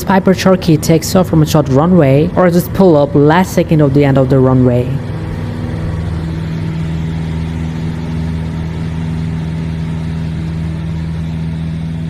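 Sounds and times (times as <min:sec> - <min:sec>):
propeller plane engine at full power: 0:00.0 - 0:12.0.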